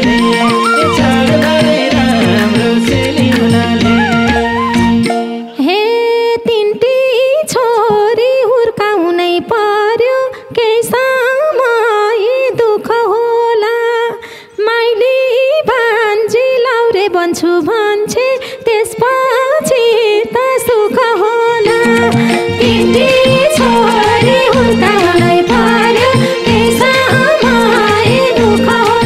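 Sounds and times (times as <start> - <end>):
woman singing unaccompanied: 0.0 - 29.0.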